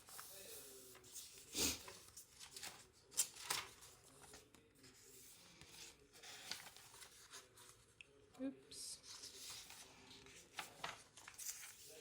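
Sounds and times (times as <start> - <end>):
paper pages rustling: 0.0 - 7.9, 9.0 - 12.0.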